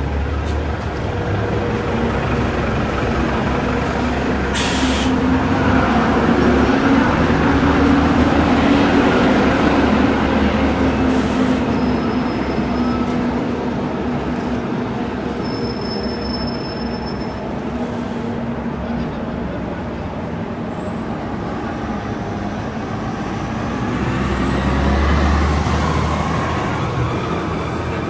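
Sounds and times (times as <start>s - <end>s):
heavy vehicle humming: 0.0s - 28.0s.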